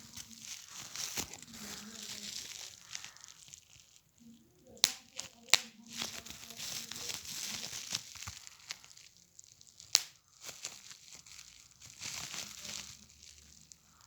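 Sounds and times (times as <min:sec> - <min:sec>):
plastic crinkling: 0:00.0 - 0:14.0
plastic popping: 0:00.0 - 0:14.0.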